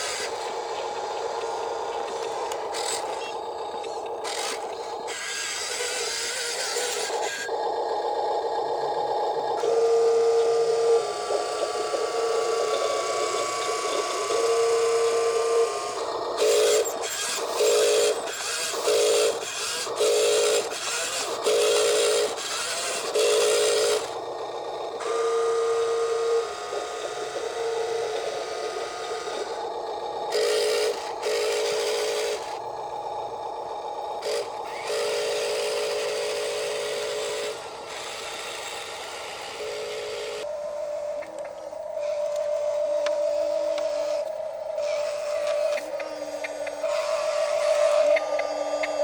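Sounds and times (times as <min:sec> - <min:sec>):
small electric motors whining: 0:00.0 - 0:49.0.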